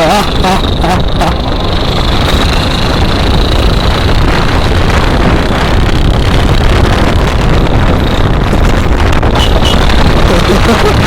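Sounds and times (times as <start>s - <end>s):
motorcycle loud exhaust: 0.0s - 11.0s
wind buffeting microphone: 0.0s - 11.0s.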